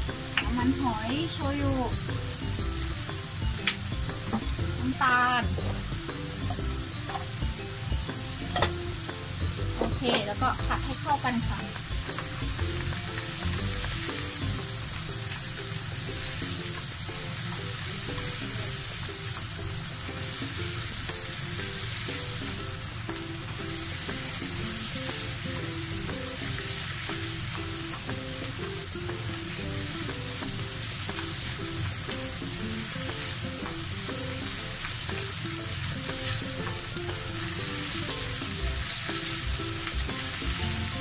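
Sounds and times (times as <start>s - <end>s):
food sizzling in a frying pan: 0.0s - 41.0s.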